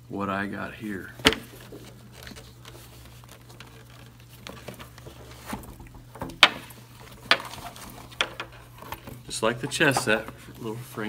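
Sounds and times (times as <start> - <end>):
leather rustling: 0.9 - 11.0.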